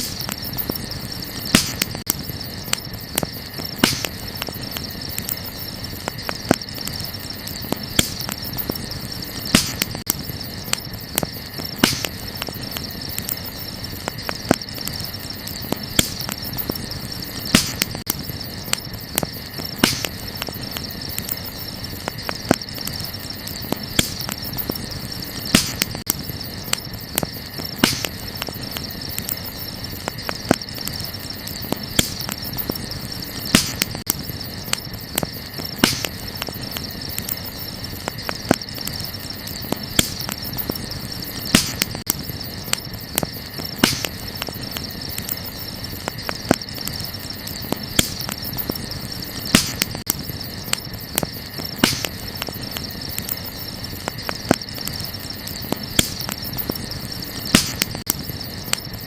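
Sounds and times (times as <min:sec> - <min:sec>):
campfire crackling and popping: 0:00.0 - 0:59.0
crickets chirring: 0:00.0 - 0:59.0.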